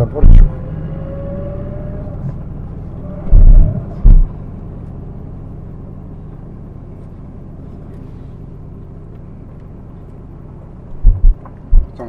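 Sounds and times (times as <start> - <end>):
car driving on road: 0.0 - 12.0.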